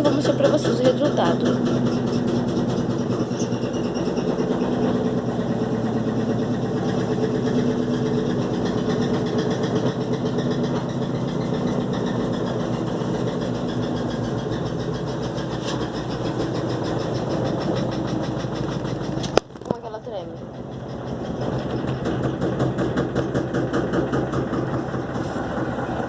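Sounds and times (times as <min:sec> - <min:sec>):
washing machine spin hum: 0:00.0 - 0:26.0.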